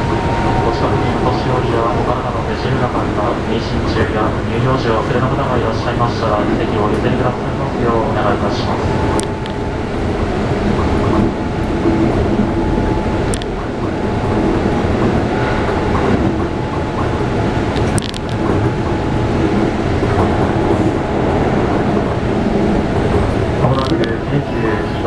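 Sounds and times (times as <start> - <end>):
sharp clicks below train: 0.0 - 25.0
train wheels rolling: 0.0 - 25.0.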